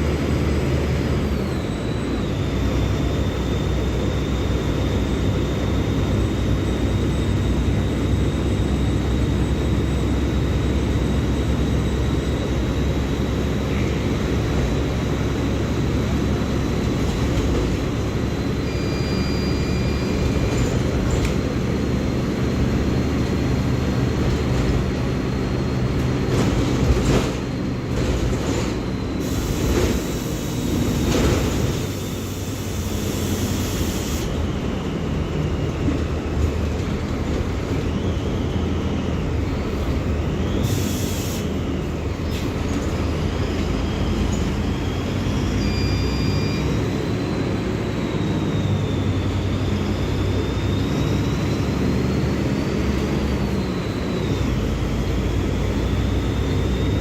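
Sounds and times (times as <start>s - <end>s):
diesel bus engine rumbling: 0.0s - 57.0s.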